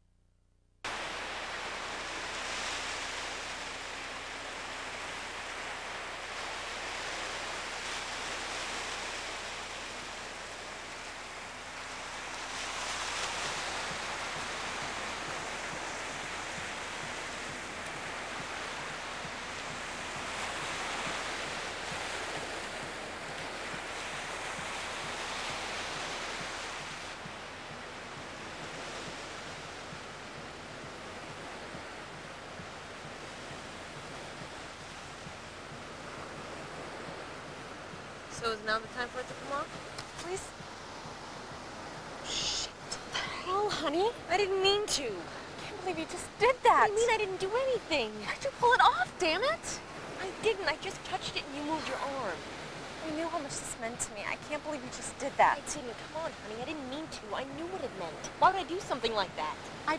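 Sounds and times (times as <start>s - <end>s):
waves washing onto beach: 0.9s - 59.9s.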